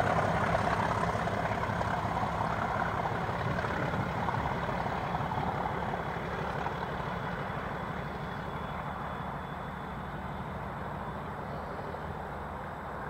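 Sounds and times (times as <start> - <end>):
diesel locomotive engines working: 0.0 - 13.0.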